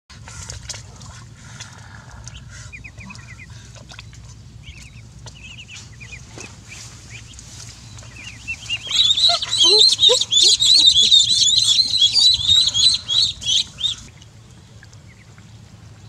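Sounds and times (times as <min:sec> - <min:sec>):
ducklings peeping: 0:01.4 - 0:14.2, 0:14.8 - 0:15.9.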